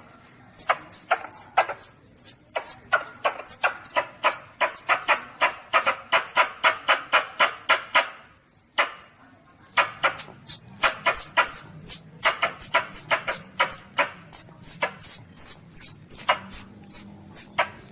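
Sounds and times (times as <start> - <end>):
civet squeaking: 0.0 - 6.9, 10.0 - 17.9.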